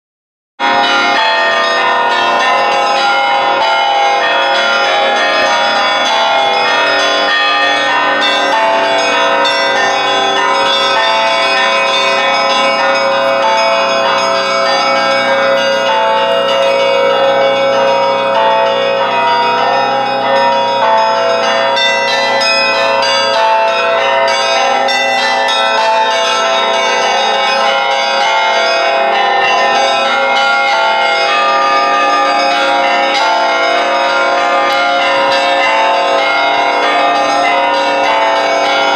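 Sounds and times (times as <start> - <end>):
church bells pealing: 0.6 - 38.9.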